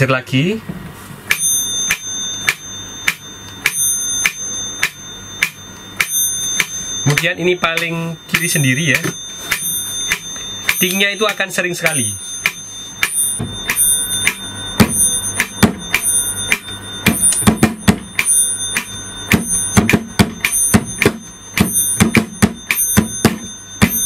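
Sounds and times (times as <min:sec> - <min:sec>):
metronome bell dinging: 0:01.3 - 0:24.0
metronome ticking: 0:01.3 - 0:24.0.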